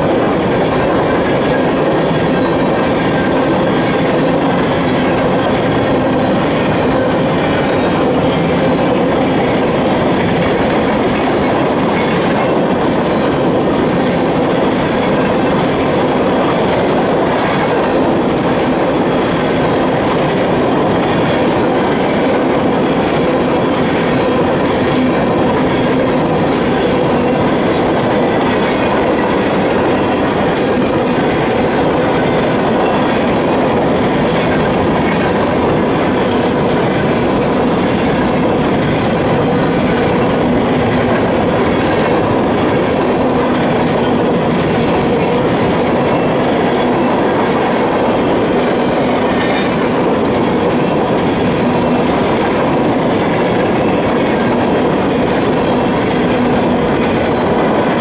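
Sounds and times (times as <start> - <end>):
clickety-clack of wheels: 0.0 - 58.0
freight train wheels rumbling: 0.0 - 58.0.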